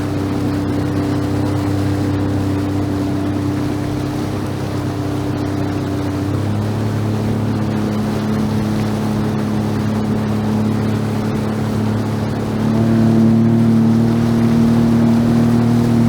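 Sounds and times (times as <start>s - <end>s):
small boat motor running: 0.0s - 16.0s.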